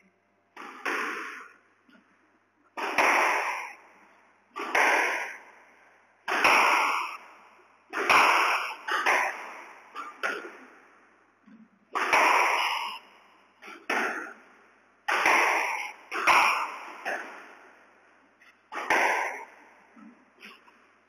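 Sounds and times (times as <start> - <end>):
squash ball hits with echo: 0.6 - 1.6, 2.8 - 10.8, 11.9 - 18.0, 18.7 - 20.7.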